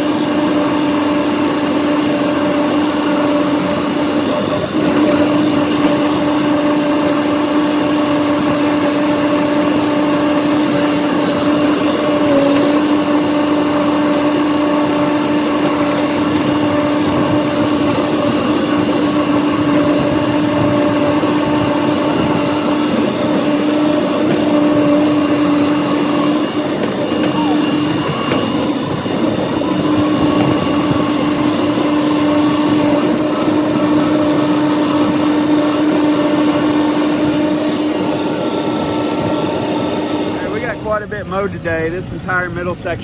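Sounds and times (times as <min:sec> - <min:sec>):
diesel tractor engine running: 0:00.0 - 0:43.0.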